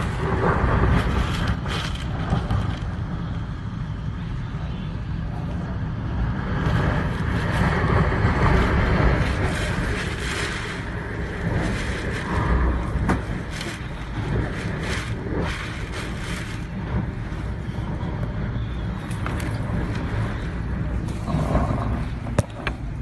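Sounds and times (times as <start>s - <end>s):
driving rain: 0.0s - 23.0s
strong wind gusts: 0.0s - 23.0s
wind rumble on microphone: 0.0s - 23.0s.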